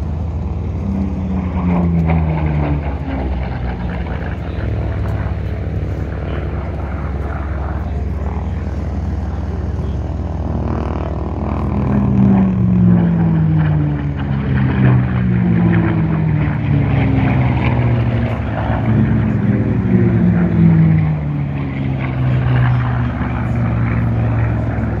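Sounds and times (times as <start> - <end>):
propeller planes flying past: 0.0 - 25.0.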